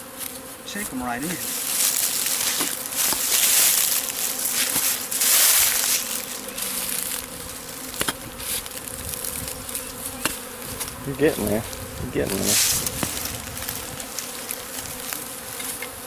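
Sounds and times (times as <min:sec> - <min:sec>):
bees buzzing: 0:00.0 - 0:16.0
digging through dirt and roots: 0:00.2 - 0:15.8.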